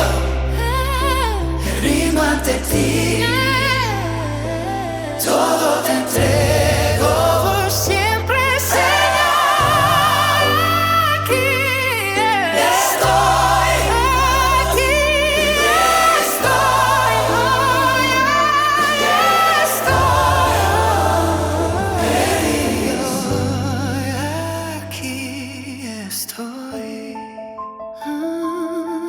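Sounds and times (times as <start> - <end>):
held bass notes: 0.0 - 25.0
wordless vocals with vibrato: 0.0 - 29.0.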